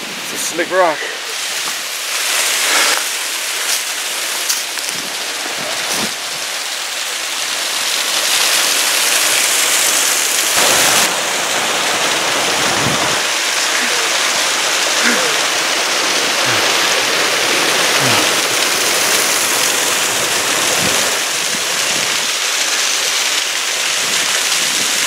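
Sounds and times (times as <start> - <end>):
water rushing down a waterfall: 0.0 - 25.0.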